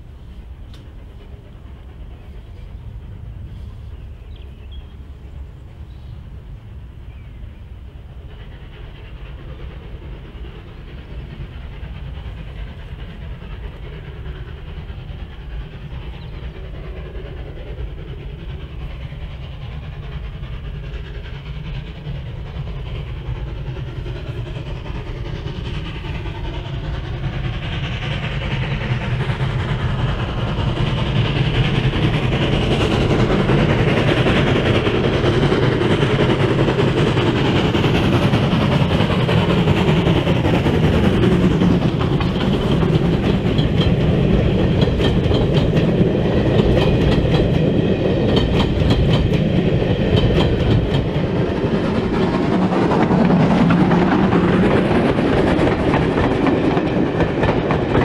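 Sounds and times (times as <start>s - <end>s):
steam train rumbling: 0.0s - 58.0s.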